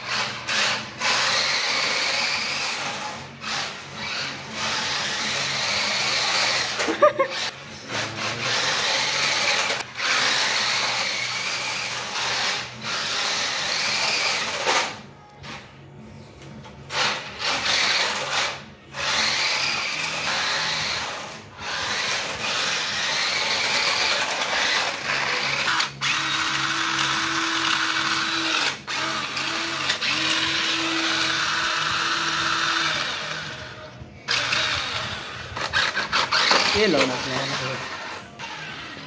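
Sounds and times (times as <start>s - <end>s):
toy car electric motor whirring: 0.0s - 15.7s, 16.9s - 39.0s.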